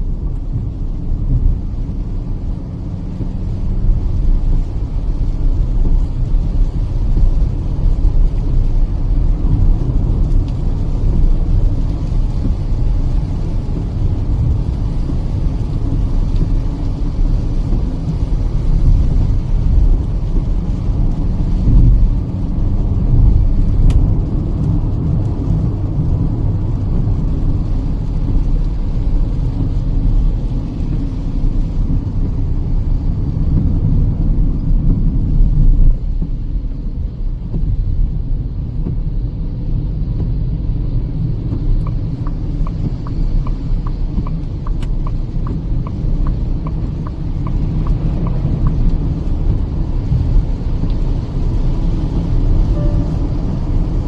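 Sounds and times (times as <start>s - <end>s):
car engine running: 0.0s - 54.0s
tyre and road rumble: 0.0s - 54.0s.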